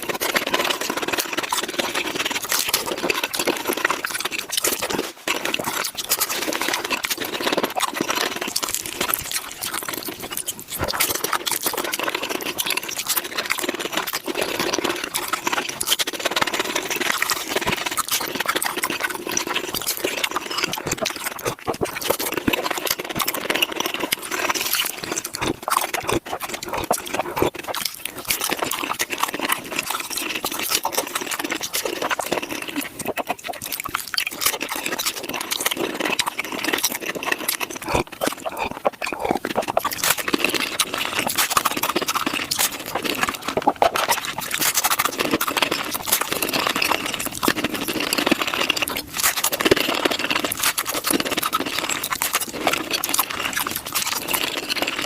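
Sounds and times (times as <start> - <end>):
rapid crunching and chewing: 0.0 - 55.0.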